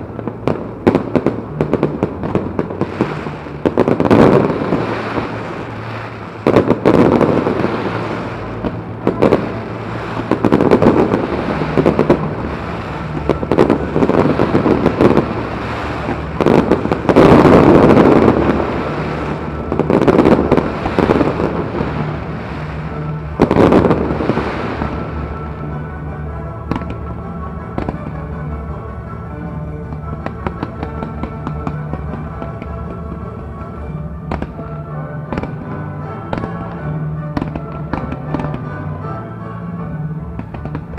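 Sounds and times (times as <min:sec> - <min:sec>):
firework crackling: 0:00.0 - 0:39.0, 0:40.3 - 0:40.9
fireworks bursting: 0:00.0 - 0:39.2, 0:40.2 - 0:40.9.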